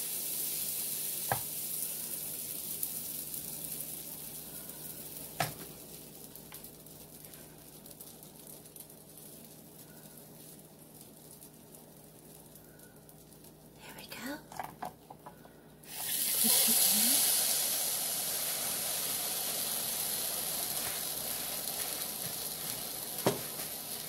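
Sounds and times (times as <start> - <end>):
batter sizzling: 0.0 - 24.0.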